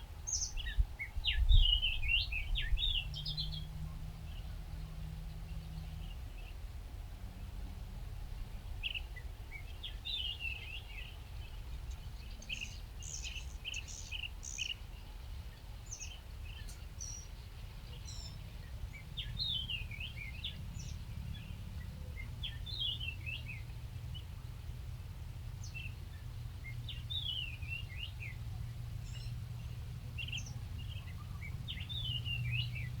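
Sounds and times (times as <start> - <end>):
small birds chirping: 0.3 - 6.6, 8.8 - 24.3, 25.6 - 33.0.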